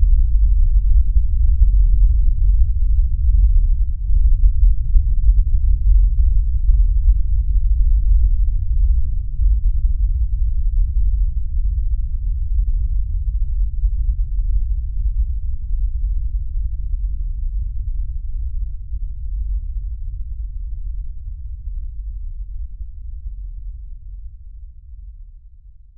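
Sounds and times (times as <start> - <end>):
deep low rumble: 0.0 - 25.9.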